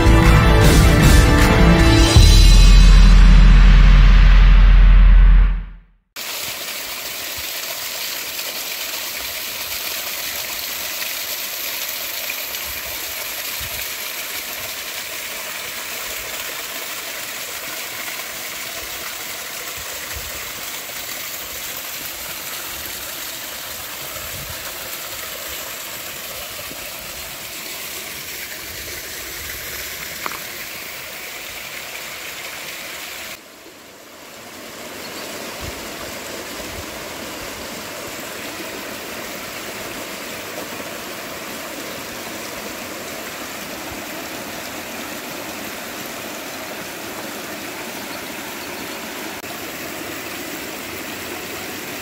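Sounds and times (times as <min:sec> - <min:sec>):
stream rushing over rocks: 0:06.2 - 0:52.0.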